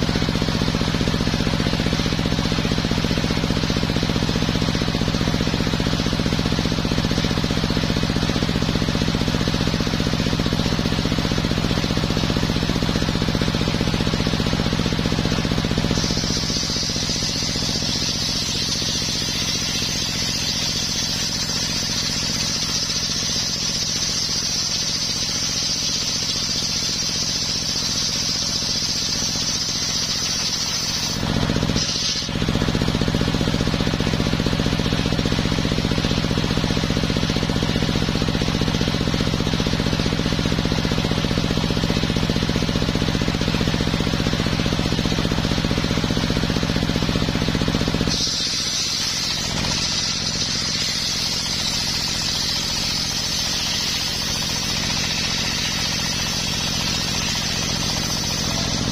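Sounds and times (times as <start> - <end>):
sawmill engine droning: 0.0 - 58.9
saw blade whining through wood: 1.0 - 35.2, 43.6 - 58.9.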